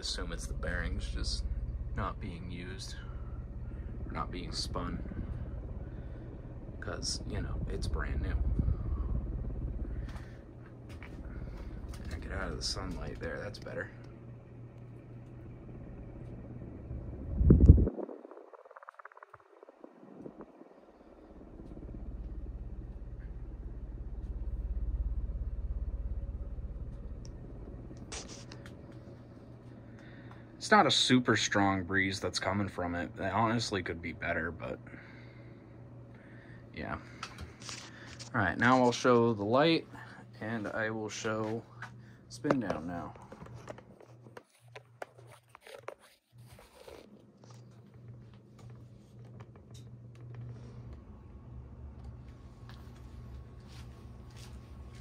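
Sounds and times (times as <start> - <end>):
fan wind buffeting microphone: 0.0 - 44.3.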